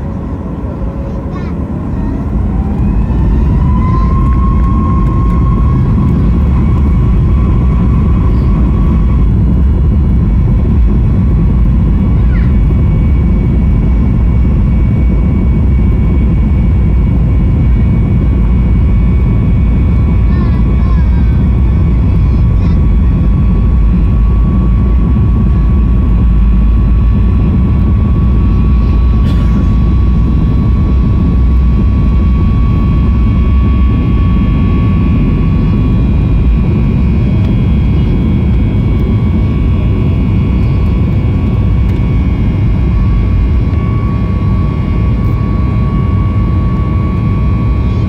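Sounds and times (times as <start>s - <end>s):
jet engine and airflow rumble: 0.0s - 48.0s.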